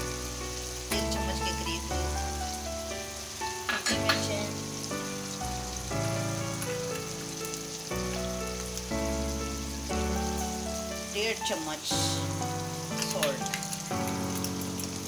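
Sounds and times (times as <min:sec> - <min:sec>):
background music of held notes: 0:00.0 - 0:15.0
chicken sizzling in oil: 0:00.0 - 0:15.0.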